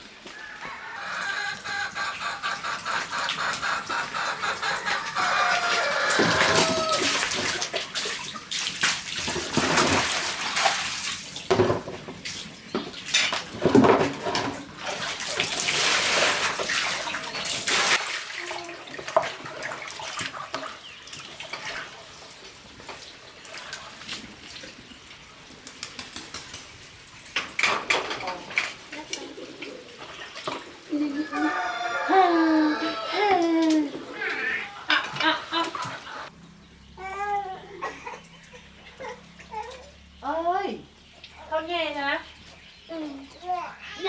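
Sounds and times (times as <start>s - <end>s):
water splashing and pouring: 0.9s - 36.3s.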